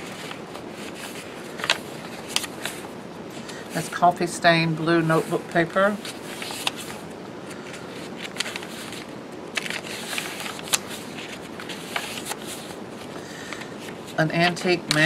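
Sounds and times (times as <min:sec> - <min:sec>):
pages crackling as turned: 0:00.0 - 0:04.0, 0:05.0 - 0:15.0
paper pages rustling: 0:00.0 - 0:04.0, 0:05.0 - 0:15.0.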